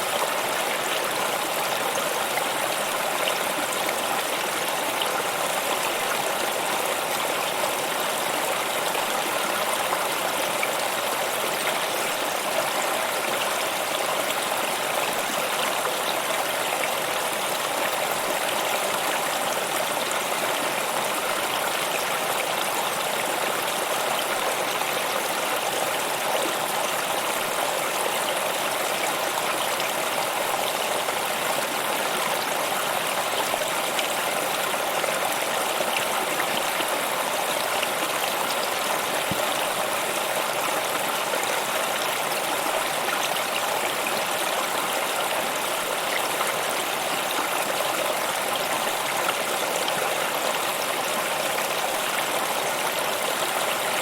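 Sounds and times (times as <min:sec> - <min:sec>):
stream rushing and splashing: 0:00.0 - 0:54.0.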